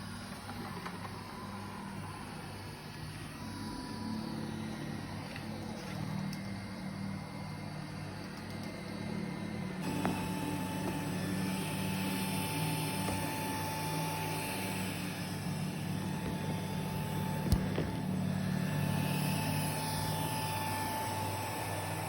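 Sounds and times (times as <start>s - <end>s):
robot vacuum humming: 0.0s - 22.0s
thin steady whine: 0.0s - 22.0s.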